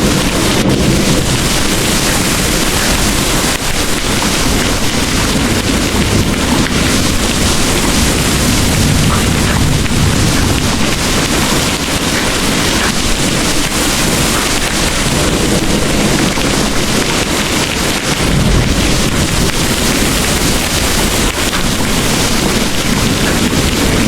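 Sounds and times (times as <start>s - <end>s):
distant thunder rumble: 0.0s - 24.0s
heavy rain pouring: 0.0s - 24.0s.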